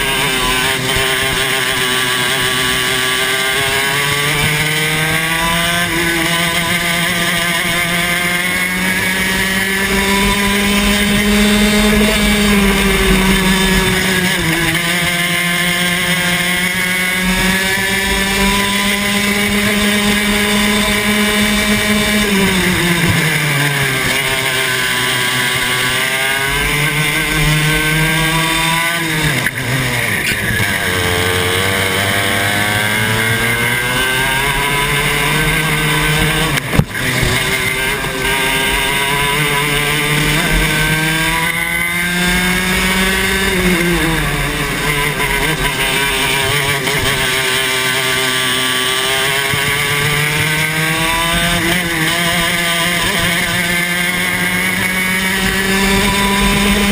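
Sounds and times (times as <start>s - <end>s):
kart engine at racing pace: 0.0s - 56.9s.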